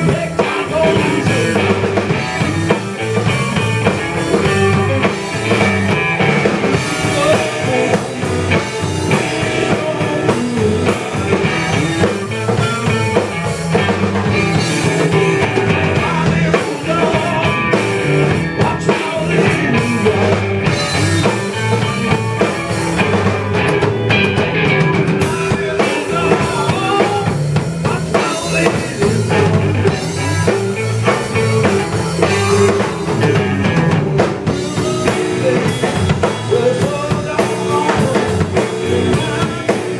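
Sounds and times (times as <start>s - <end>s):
drum kit: 0.0s - 39.9s
electric guitars playing: 0.0s - 39.9s.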